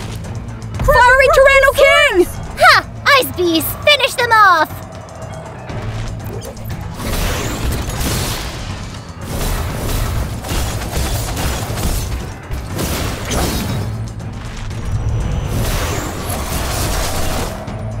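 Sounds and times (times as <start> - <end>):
dramatic action music: 0.0 - 18.0.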